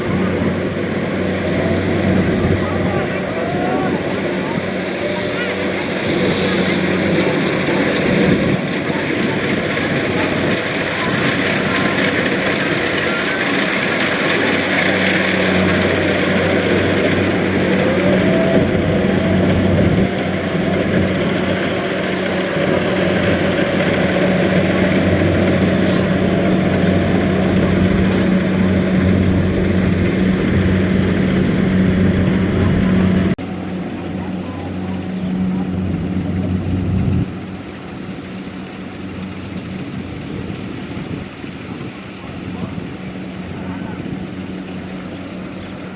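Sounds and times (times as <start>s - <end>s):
combine harvester running: 0.0s - 45.9s
diesel engine humming: 0.0s - 45.9s.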